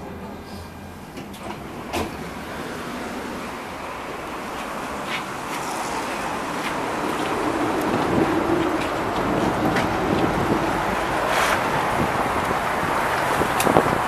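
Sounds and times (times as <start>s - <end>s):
tram rolling noise: 0.0s - 14.0s.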